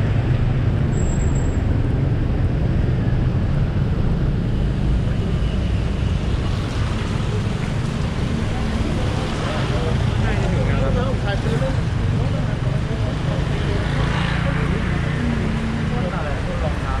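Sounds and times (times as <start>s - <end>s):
busy road traffic rumble: 0.0s - 17.0s.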